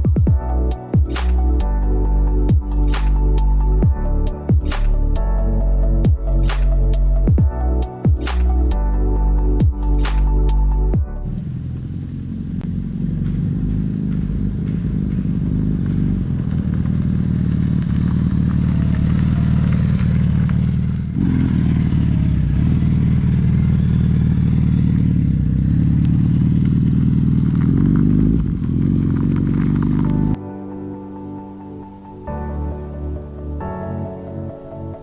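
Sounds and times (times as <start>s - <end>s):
motorcycle engine running: 0.0s - 30.4s.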